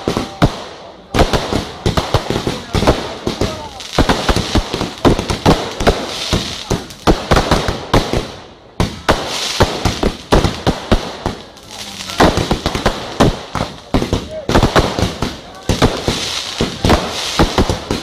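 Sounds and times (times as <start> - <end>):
fireworks bangs: 0.0 - 18.0
fireworks crackle and fizzing: 0.0 - 18.0.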